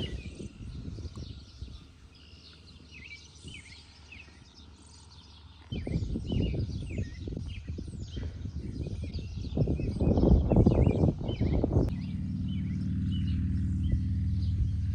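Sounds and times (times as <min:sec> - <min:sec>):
birds chirping: 0:00.0 - 0:14.9
irregular low rumble: 0:00.0 - 0:14.9.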